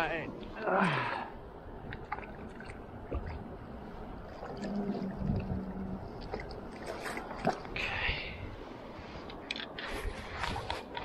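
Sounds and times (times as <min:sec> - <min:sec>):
river water lapping around legs: 0:00.0 - 0:11.0
low hum: 0:00.2 - 0:10.8.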